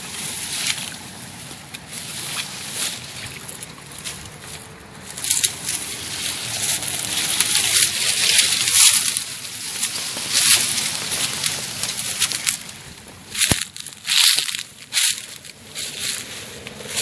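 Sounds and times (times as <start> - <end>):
dry vegetation rustling and crackling: 0.0 - 17.0.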